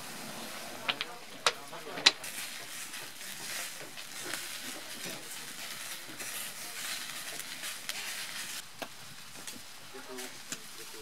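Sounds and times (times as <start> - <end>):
fish sizzling over fire: 0.0 - 11.0
wood fire crackles: 0.0 - 11.0.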